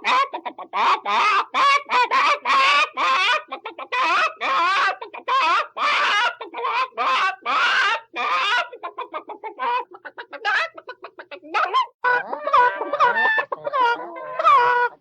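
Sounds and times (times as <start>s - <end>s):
chickens clucking: 0.0s - 15.0s
chickens squawking: 0.0s - 15.0s.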